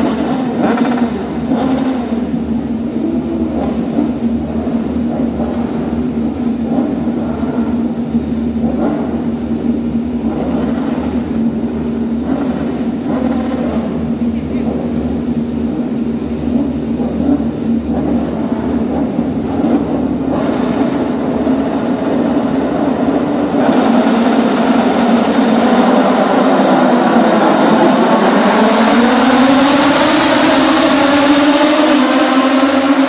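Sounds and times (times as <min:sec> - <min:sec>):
racing motorcycles revving: 0:00.0 - 0:33.0.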